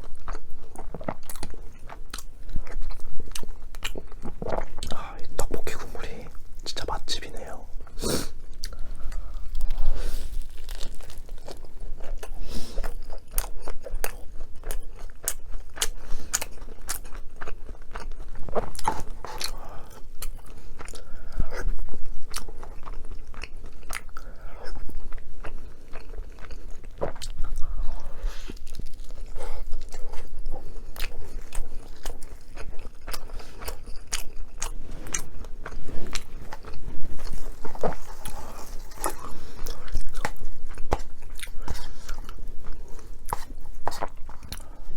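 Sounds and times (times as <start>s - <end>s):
chewing and crunching food: 0.0s - 44.9s.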